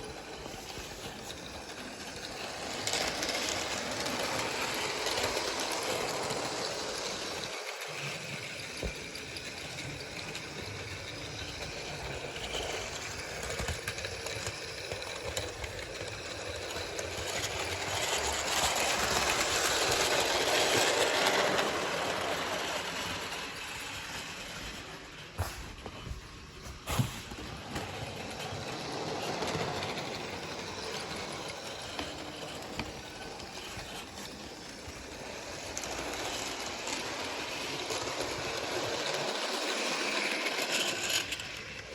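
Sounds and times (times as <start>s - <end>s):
model train motor whirring: 0.0s - 41.9s
wheels rattling on rail: 0.0s - 41.9s.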